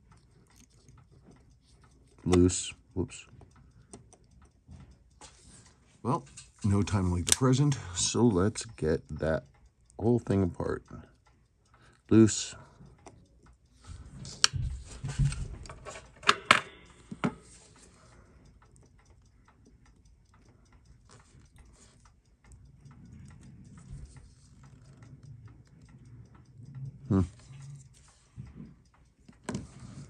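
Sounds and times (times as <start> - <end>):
tweezers clicking on watch: 0.0 - 15.0, 15.6 - 30.0
watch ticking: 0.0 - 30.0.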